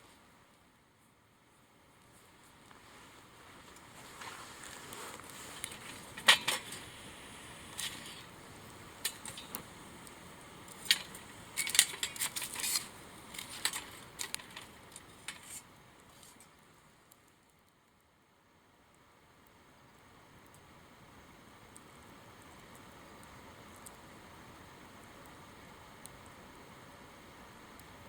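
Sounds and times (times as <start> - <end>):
soft background hiss: 0.0 - 28.0
wood fire crackling and popping: 2.0 - 18.1, 18.9 - 28.0.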